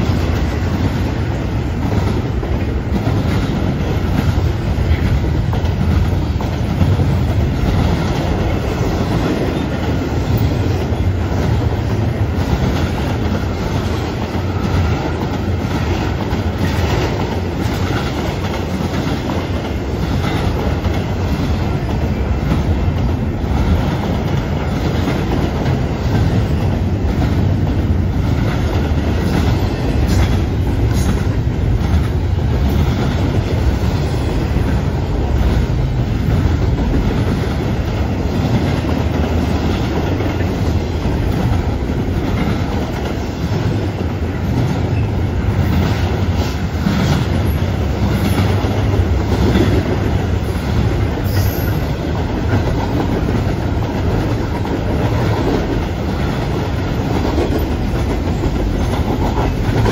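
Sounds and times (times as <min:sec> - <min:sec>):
wheels clacking over rails: 0:00.0 - 0:59.9.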